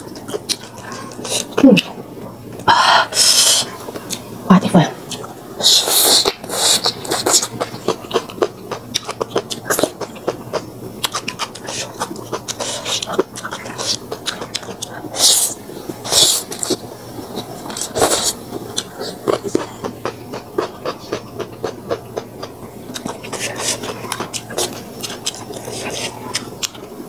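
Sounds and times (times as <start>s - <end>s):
chewing and lip smacking: 0.1s - 1.9s, 6.0s - 16.8s, 17.4s - 27.0s.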